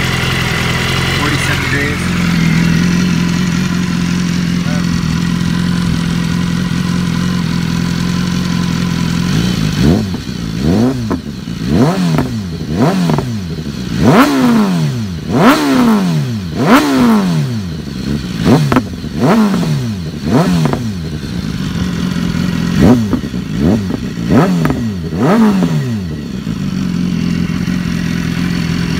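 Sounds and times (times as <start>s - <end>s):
motorcycle engine idling: 0.0s - 28.9s
motorcycle throttle blips: 0.0s - 28.9s.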